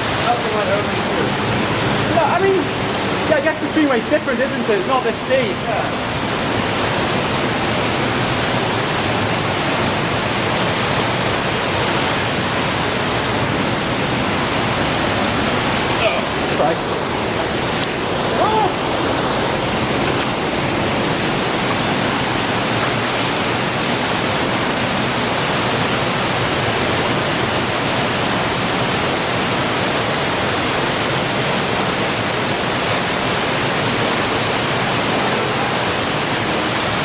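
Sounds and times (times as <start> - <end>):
cave stream rushing: 0.0 - 37.0.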